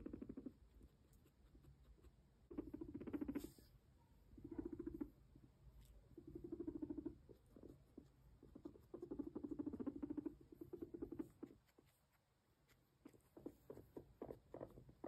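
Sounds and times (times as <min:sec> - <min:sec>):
guinea pig purring: 0:00.0 - 0:15.0.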